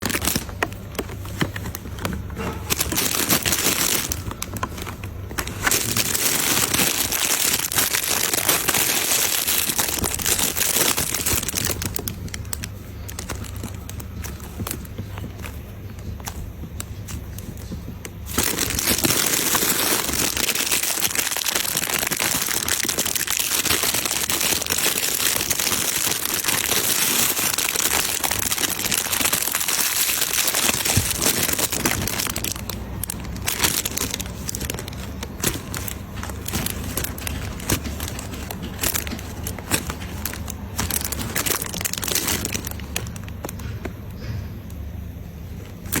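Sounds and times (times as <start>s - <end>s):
slime crinkling and crackling: 0.0s - 46.0s.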